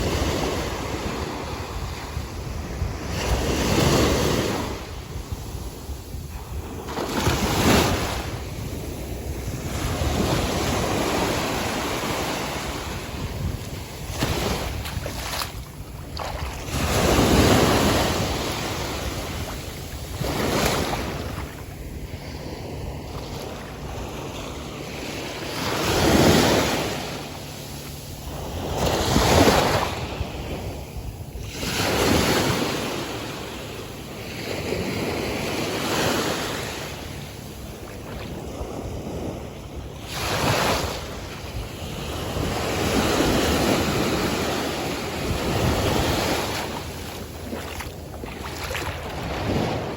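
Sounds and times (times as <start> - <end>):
ocean surf breaking on beach: 0.0 - 49.9.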